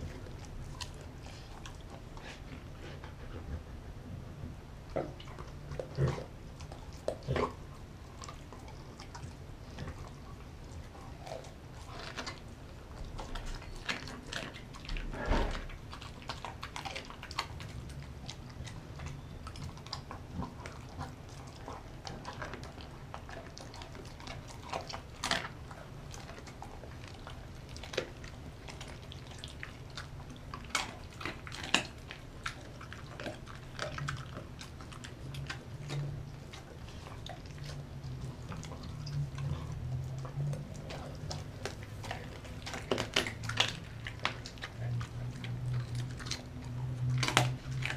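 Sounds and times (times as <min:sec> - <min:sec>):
dog chewing and gnawing: 0:00.0 - 0:47.9
teeth clicks and tongue smacks: 0:06.6 - 0:47.9.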